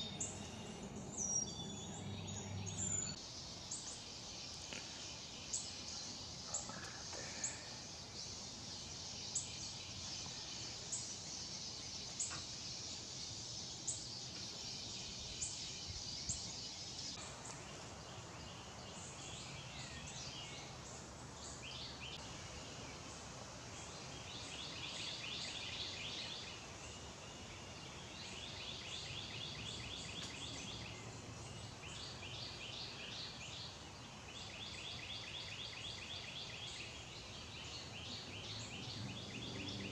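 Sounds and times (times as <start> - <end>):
birds chirping: 0.0 - 39.9
steady high hiss: 0.0 - 39.9.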